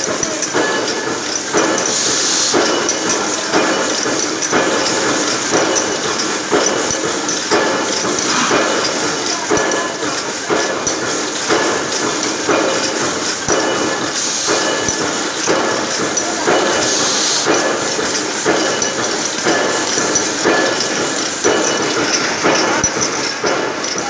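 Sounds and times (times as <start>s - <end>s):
machine mechanical clatter: 0.0s - 24.0s.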